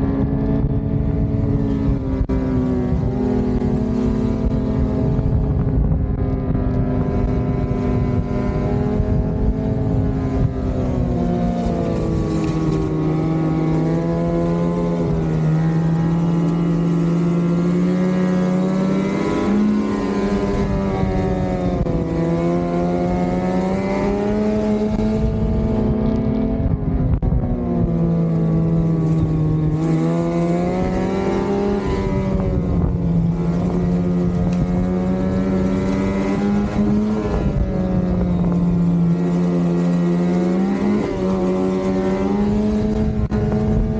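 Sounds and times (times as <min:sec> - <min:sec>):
snowmobile engine revving: 0:00.0 - 0:43.9
wind rumble on microphone: 0:00.0 - 0:43.9.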